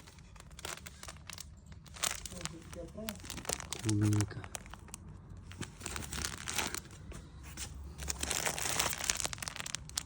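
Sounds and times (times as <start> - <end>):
packet crinkling and rustling: 0.0 - 10.0.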